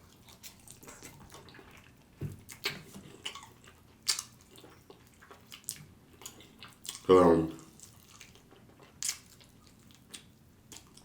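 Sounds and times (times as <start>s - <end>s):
wet mouth smacks chewing: 0.2s - 11.0s.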